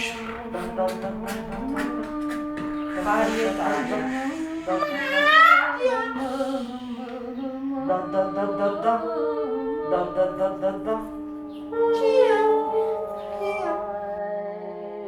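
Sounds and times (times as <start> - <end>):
voices singing a cappella: 0.0 - 15.0.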